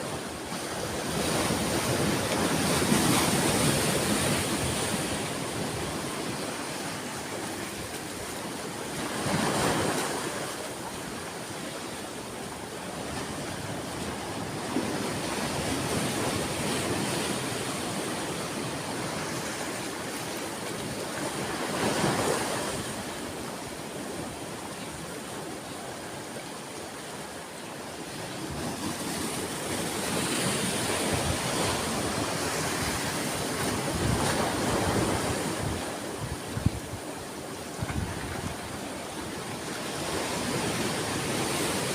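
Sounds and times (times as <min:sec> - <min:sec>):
ocean waves washing: 0:00.0 - 0:41.9.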